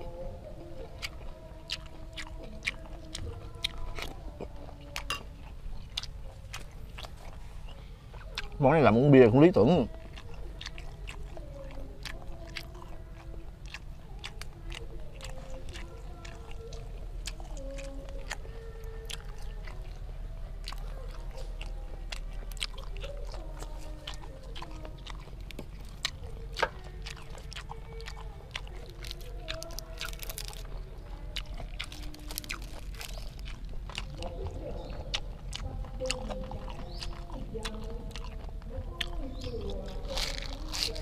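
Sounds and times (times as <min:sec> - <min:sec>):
wet chewing with crisp crunches: 0:00.0 - 0:41.0.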